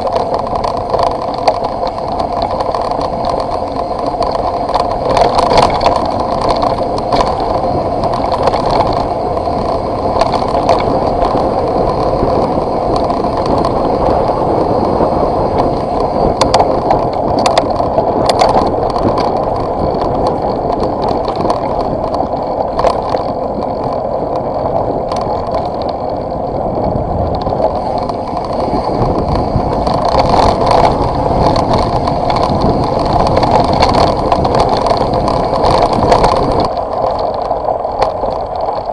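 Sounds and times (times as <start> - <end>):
tyres rumbling on dirt track: 0.0 - 38.9.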